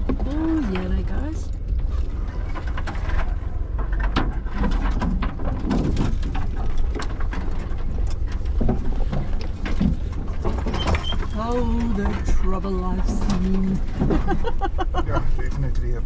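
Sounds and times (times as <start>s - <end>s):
knocks and creaks of car body: 0.0s - 12.5s, 13.1s - 16.0s
engine and drivetrain rumble: 0.0s - 16.0s.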